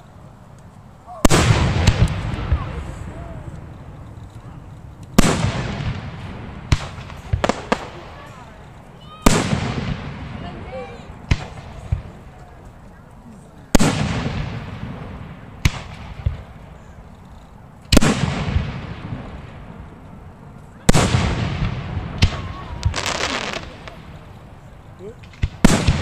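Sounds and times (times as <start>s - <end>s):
firework pops and cracks: 0.5s - 10.2s, 11.2s - 12.8s, 13.6s - 20.1s, 20.7s - 26.0s
firework shells booming: 1.1s - 12.4s, 13.7s - 17.2s, 17.9s - 20.0s, 20.8s - 26.0s.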